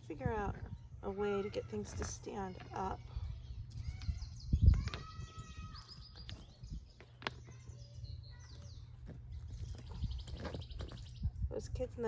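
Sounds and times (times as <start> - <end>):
birds chirping: 0.0 - 12.0
distant children's voices: 0.1 - 10.6.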